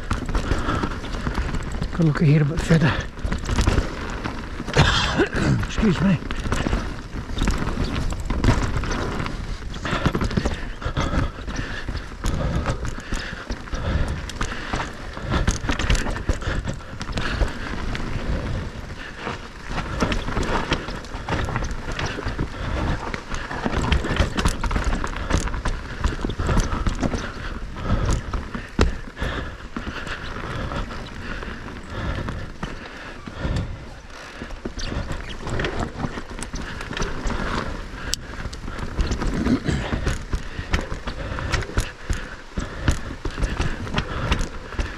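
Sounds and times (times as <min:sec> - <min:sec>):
bike rattling over bumps: 0:00.0 - 0:44.9
bike tyres rumbling over dirt: 0:00.0 - 0:44.9.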